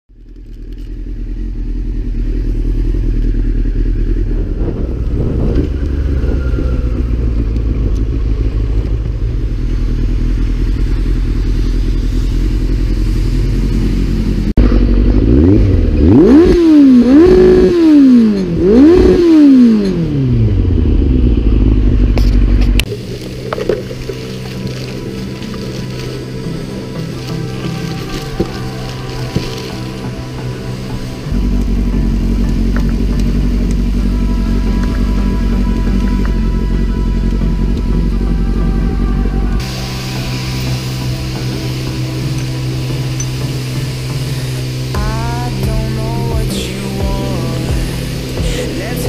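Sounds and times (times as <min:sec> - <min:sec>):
motorcycle engine revving: 0:00.1 - 0:49.0.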